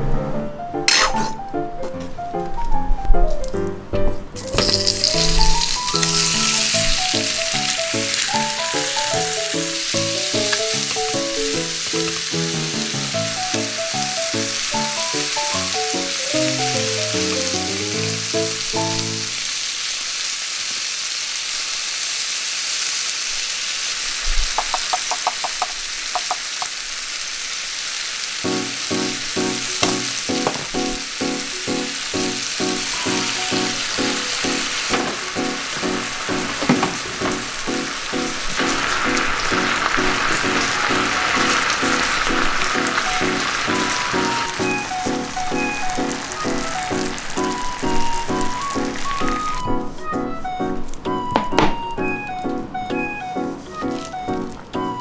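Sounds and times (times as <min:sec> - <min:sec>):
chicken sizzling in hot oil: 0:04.4 - 0:50.0.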